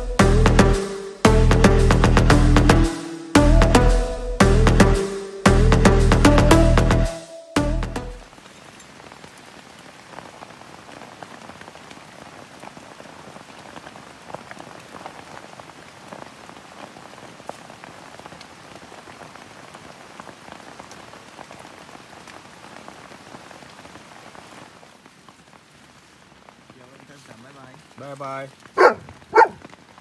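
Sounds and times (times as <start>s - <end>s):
heavy rain on leaves: 0.0s - 7.0s, 8.1s - 30.0s.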